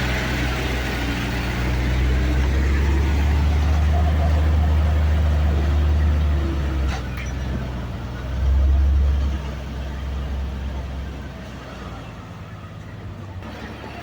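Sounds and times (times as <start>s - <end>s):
heavy vehicle engine rumbling: 0.0s - 14.0s.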